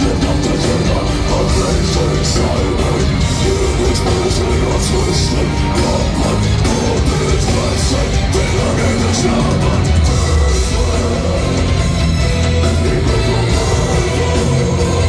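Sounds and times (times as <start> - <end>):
live metal band playing: 0.0 - 15.0
singer shouting and singing: 0.0 - 15.0.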